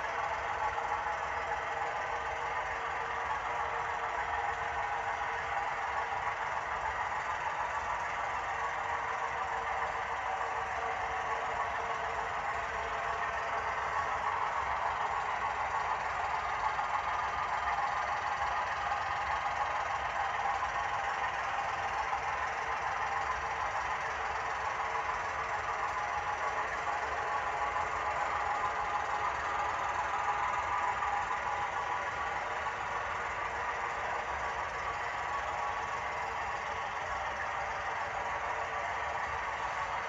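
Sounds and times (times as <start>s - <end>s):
model locomotive running on track: 0.0s - 40.0s.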